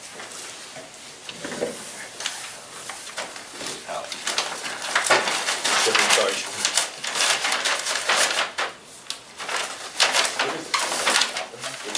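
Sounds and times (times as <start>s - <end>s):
papers rustling: 1.3s - 11.9s.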